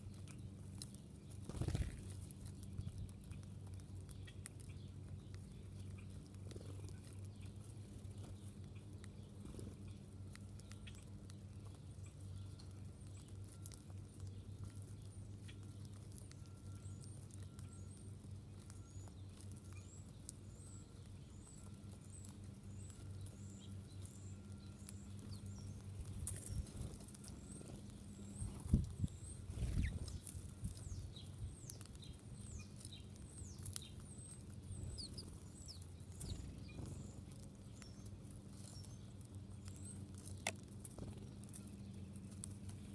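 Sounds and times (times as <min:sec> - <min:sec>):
small birds chirping: 0:00.0 - 0:42.9
steady low hum: 0:00.0 - 0:42.9.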